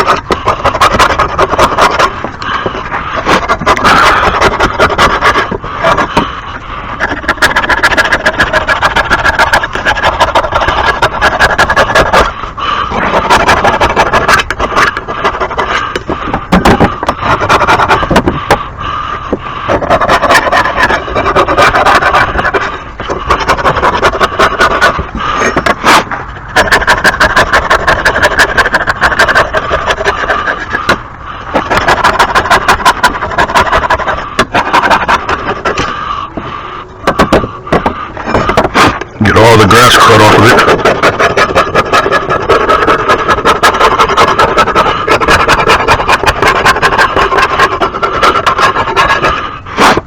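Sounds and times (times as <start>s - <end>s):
tool scraping metal deck: 0.0s - 18.6s, 19.2s - 50.0s.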